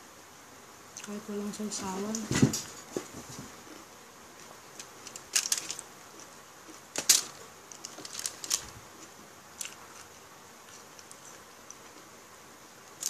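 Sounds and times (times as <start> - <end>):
close eating sounds: 0.9 - 13.0.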